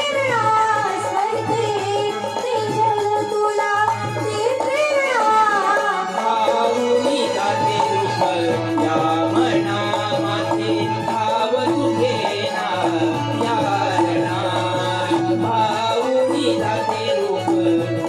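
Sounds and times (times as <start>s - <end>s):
hand drum rhythm: 0.0s - 18.0s.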